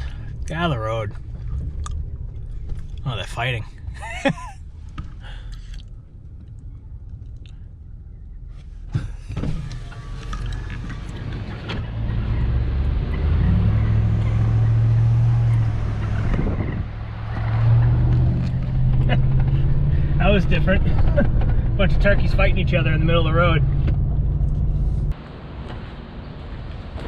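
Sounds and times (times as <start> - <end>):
road noise: 0.0 - 27.0
truck engine hum: 0.0 - 27.0.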